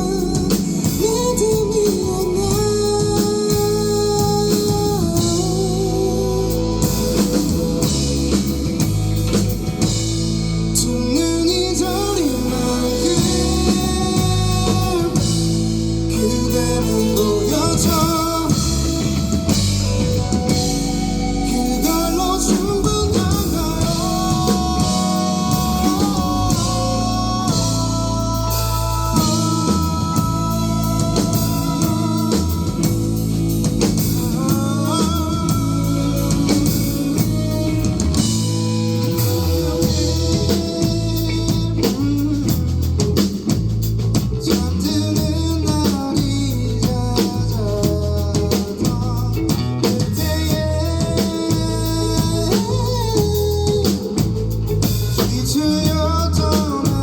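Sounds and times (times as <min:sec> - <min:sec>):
bass: 0:00.0 - 0:57.0
drum kit: 0:00.0 - 0:57.0
guitars: 0:00.0 - 0:57.0
person singing: 0:00.0 - 0:57.0.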